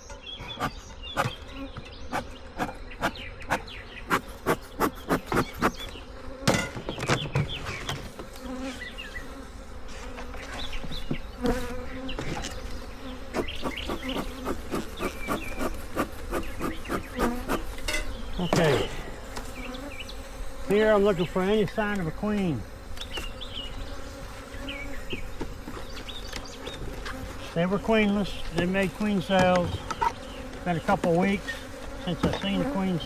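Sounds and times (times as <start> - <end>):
honeybees buzzing: 0.0 - 33.0.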